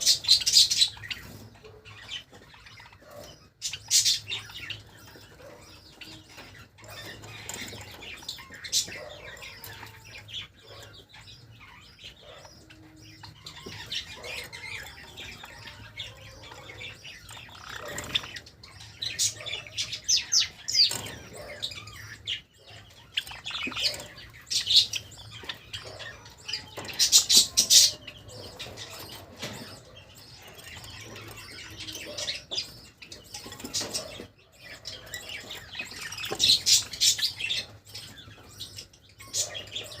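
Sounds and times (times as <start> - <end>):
sparrows chirping: 0.0 - 40.0.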